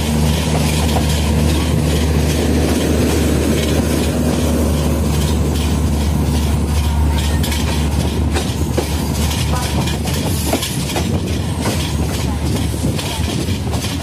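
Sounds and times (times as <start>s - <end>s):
train rumbling on tracks: 0.0s - 14.0s
wheels clacking over rail joints: 0.0s - 14.0s.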